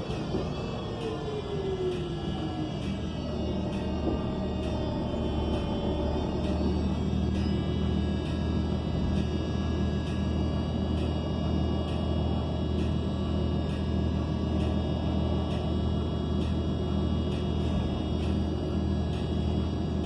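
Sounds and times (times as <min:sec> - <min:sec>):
bus engine drone: 0:00.0 - 0:20.0
high whining tones: 0:00.0 - 0:20.0.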